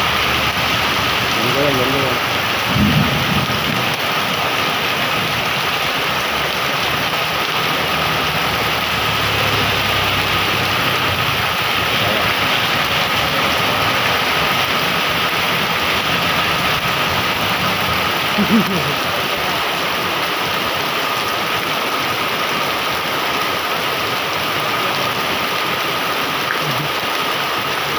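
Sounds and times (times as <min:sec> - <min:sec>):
heavy rain hissing: 0:00.0 - 0:27.9.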